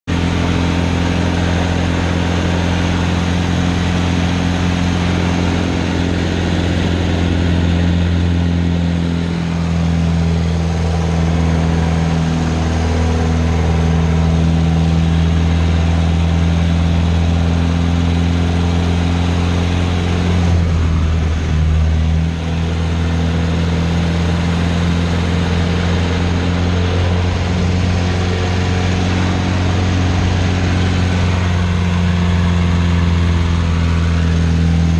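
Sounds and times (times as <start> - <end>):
propeller plane engine drone: 0.1 - 34.9.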